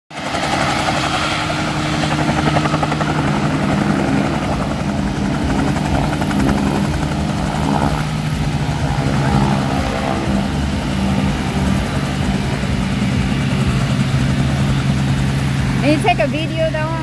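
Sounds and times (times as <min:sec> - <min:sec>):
helicopter engine hum: 0:00.1 - 0:17.0
helicopter rotor beating: 0:00.1 - 0:17.0.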